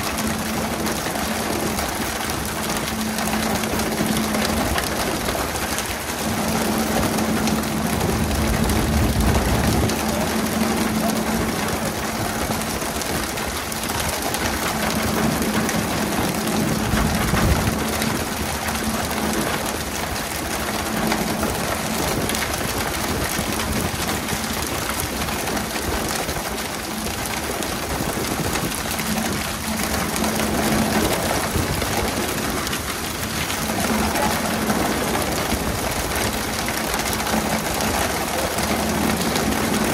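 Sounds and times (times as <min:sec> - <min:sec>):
boat engine humming: 0:00.0 - 0:39.9
water spray and churning sea: 0:00.0 - 0:39.9.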